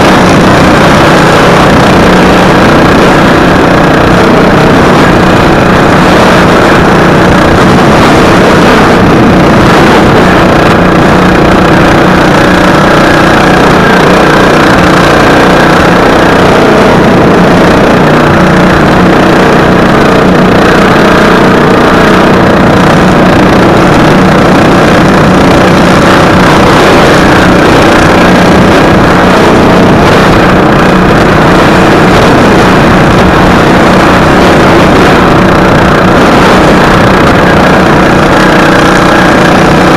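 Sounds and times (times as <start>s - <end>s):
lawn mower engine running hard: 0.0s - 39.9s.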